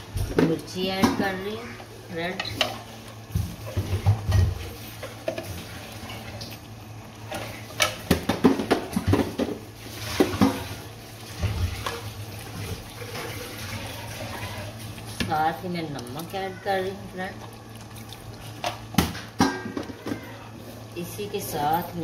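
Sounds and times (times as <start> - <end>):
water bubbling in a pot: 0.0 - 22.0.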